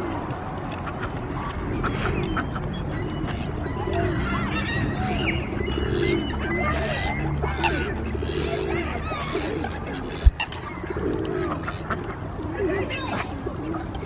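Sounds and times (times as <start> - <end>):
ducks geese and gulls calling: 0.0 - 14.0.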